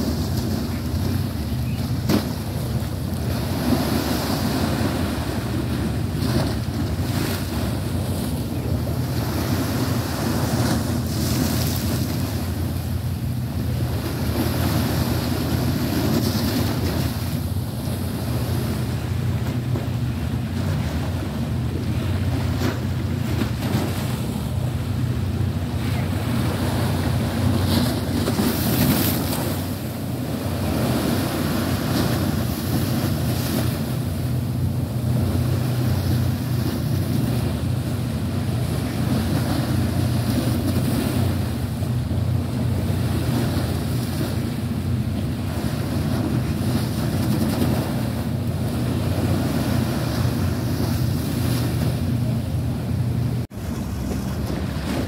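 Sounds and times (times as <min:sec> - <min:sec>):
choppy sea water: 0:00.0 - 0:55.0.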